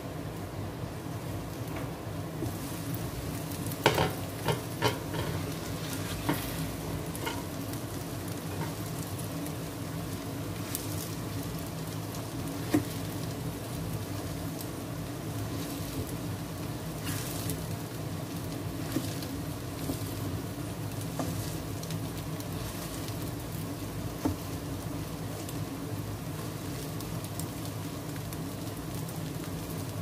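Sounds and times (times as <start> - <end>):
omelette sizzling in pan: 0.0 - 30.0.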